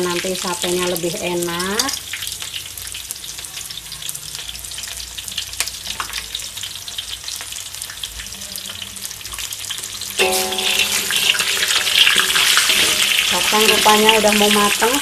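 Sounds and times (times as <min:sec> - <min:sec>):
peanuts sizzling in hot oil: 0:00.0 - 0:15.0.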